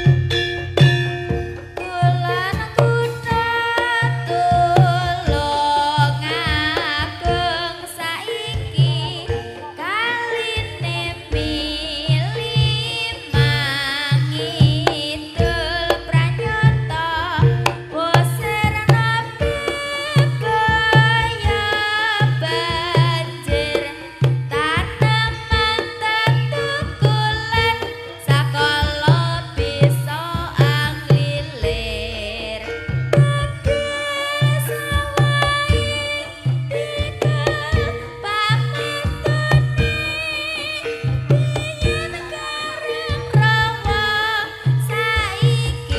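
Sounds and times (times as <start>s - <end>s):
hand drums beating quick rhythm: 0.0s - 45.9s
high wavering melody: 0.0s - 45.9s.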